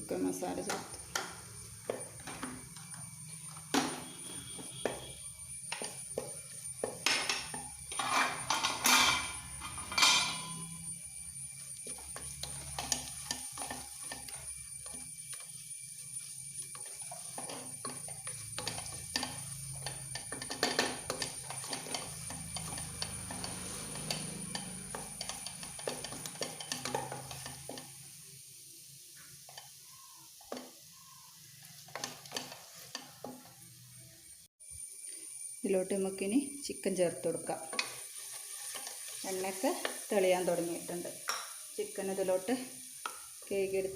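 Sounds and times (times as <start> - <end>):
light sizzle of frying spices: 0.0 - 43.9
spoon stirring and scraping pan: 0.4 - 28.1, 29.2 - 34.0, 37.4 - 43.6.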